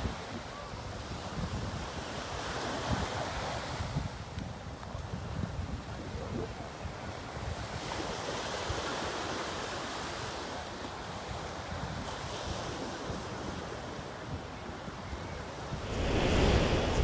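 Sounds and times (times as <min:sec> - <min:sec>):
wind buffeting microphone: 0:00.0 - 0:09.1, 0:11.0 - 0:17.0
small surf washing up beach: 0:00.0 - 0:17.0.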